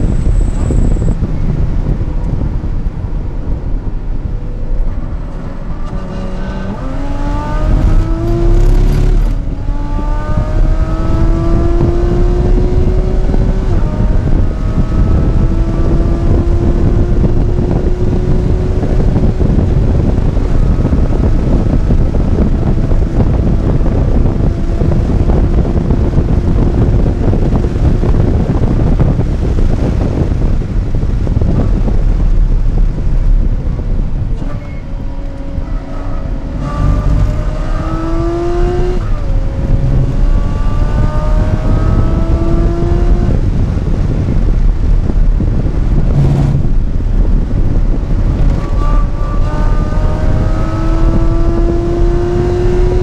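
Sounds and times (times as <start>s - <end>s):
car engine accelerating: 0.0s - 53.0s
wind and road noise: 0.0s - 53.0s.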